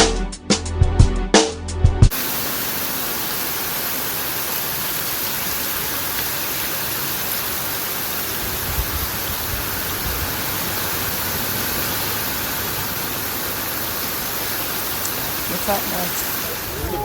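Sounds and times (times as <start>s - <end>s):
heavy rain pouring: 2.1s - 17.0s.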